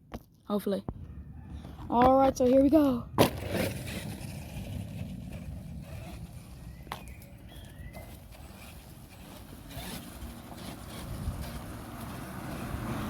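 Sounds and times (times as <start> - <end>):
rc car low rumble: 0.9 - 13.0.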